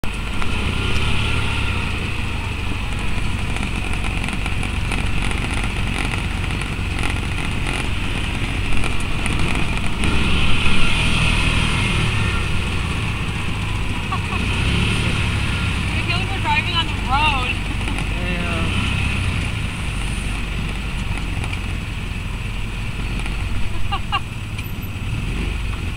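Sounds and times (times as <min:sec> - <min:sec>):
utility vehicle engine running: 0:00.0 - 0:25.9
vehicle bumps: 0:02.7 - 0:22.1, 0:22.9 - 0:24.9.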